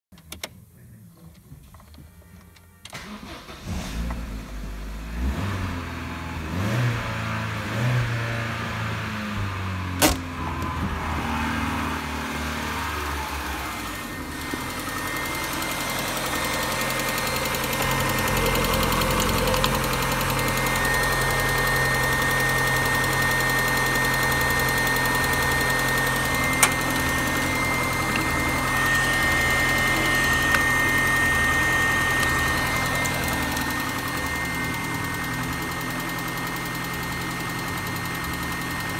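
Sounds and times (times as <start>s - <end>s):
car engine idling: 7.2s - 38.9s.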